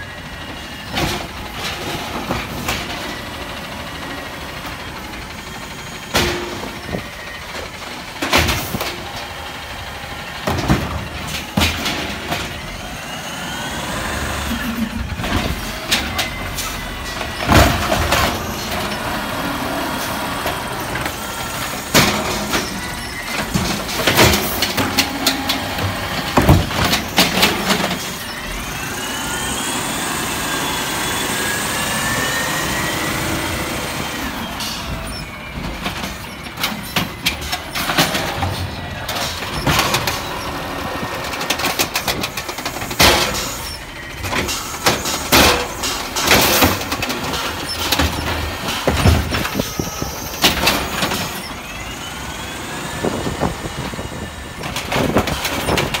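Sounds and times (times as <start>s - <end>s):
garbage truck whine: 0.0s - 56.0s
carts banging against hopper: 0.4s - 29.5s, 30.4s - 56.0s.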